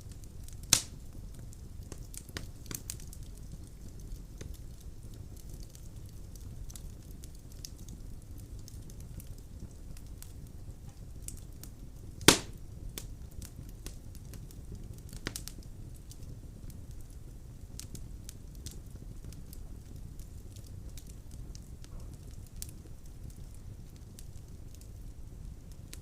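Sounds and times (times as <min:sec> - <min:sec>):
burning wood popping: 0:00.0 - 0:26.0
fire flames rumbling: 0:00.0 - 0:26.0
wood crackling: 0:00.2 - 0:26.0.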